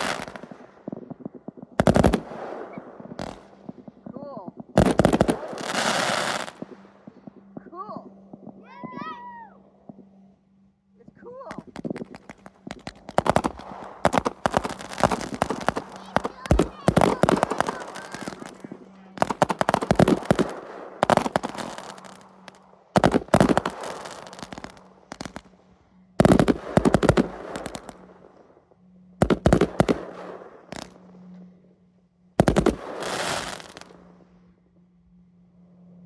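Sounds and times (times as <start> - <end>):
fireworks banging: 0.0 - 10.5, 11.1 - 25.6, 26.2 - 28.4, 29.2 - 31.2, 32.4 - 34.2
fireworks crackling: 0.0 - 10.5, 11.3 - 28.6, 29.2 - 31.4, 32.4 - 34.4.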